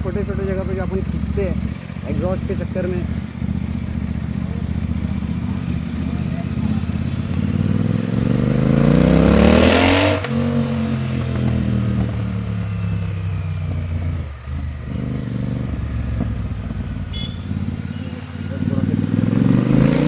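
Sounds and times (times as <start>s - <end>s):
loud motorcycle engine revving: 0.0s - 20.0s.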